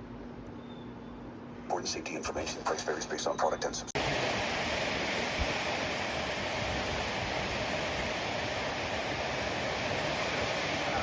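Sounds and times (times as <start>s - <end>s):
radio static hiss: 1.6s - 11.0s.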